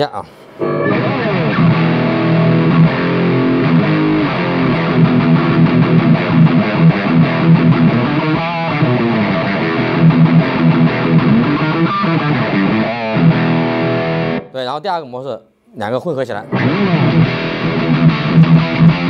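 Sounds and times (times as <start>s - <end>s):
distorted electric guitar: 0.5s - 14.5s, 16.5s - 19.0s.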